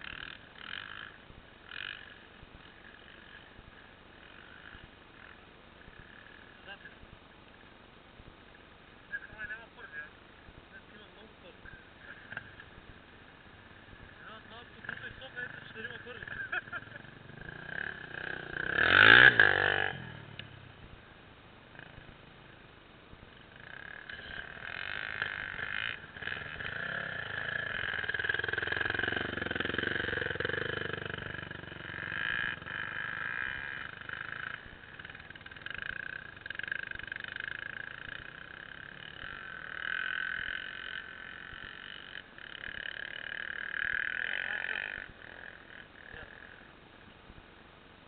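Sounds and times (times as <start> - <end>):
motorcycle engines revving: 0.0 - 47.6.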